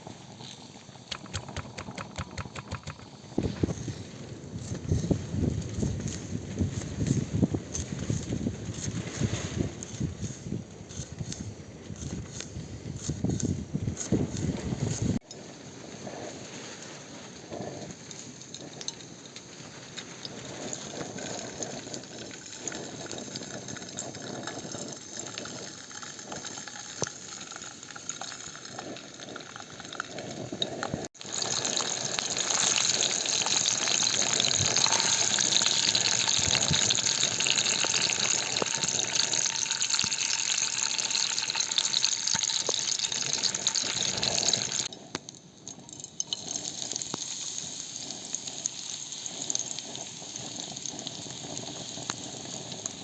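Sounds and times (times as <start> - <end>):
hissing and bubbling in cookware: 0.0 - 53.0.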